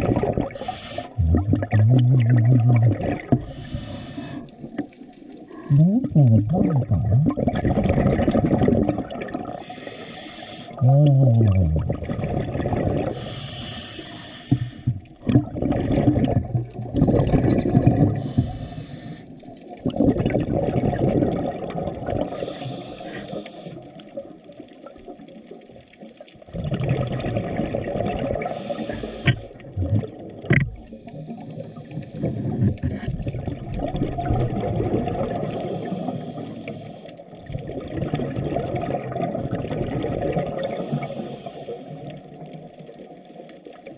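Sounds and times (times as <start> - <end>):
muffled water sloshing: 0.0 - 43.9.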